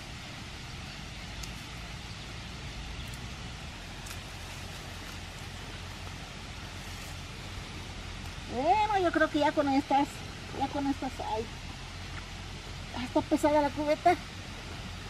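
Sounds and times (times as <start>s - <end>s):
bush branches rustling: 0.0s - 13.0s
low outdoor hiss: 0.0s - 15.0s.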